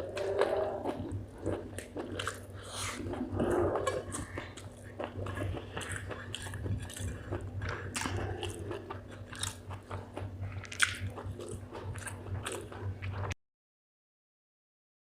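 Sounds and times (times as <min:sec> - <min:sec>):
chewing and crunching food: 0:00.0 - 0:13.4
low steady hum: 0:00.0 - 0:13.4.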